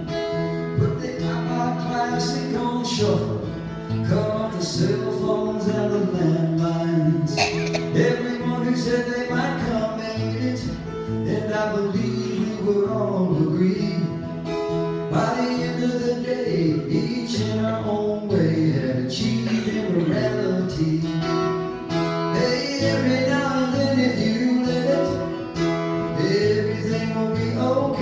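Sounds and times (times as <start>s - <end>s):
strummed acoustic guitar: 0.0s - 28.0s
man singing: 0.8s - 28.0s.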